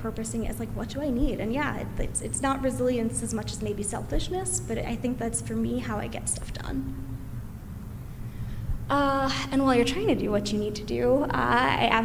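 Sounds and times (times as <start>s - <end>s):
woman speaking: 0.0s - 7.0s, 8.9s - 12.0s
low steady room rumble: 0.0s - 12.0s.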